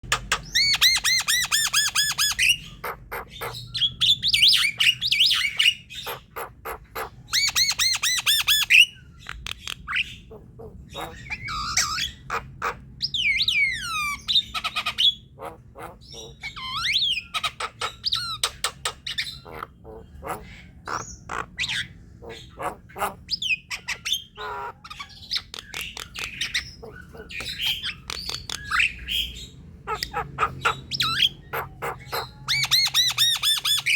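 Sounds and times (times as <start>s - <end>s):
myna bird singing chatter: 0.0s - 33.9s.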